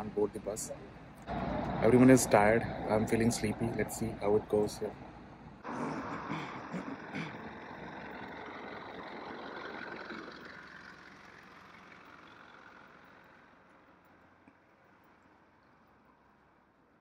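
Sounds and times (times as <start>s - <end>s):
bus engine idling: 0.0s - 16.9s.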